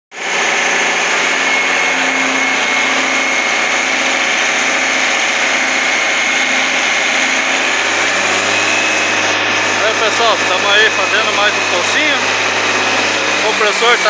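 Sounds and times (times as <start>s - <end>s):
air compressor running: 0.1s - 14.0s
thin steady whine: 0.2s - 14.0s.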